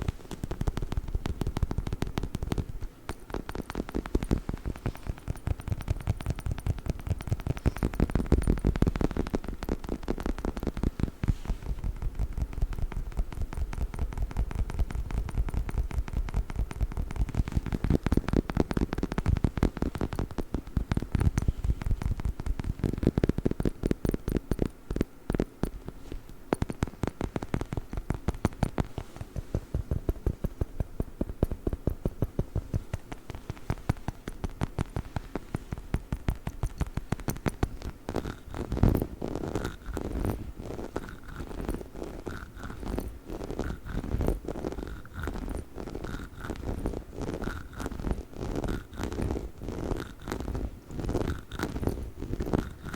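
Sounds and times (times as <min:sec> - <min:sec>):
fingernails tapping rubber toy: 0:00.0 - 0:52.9.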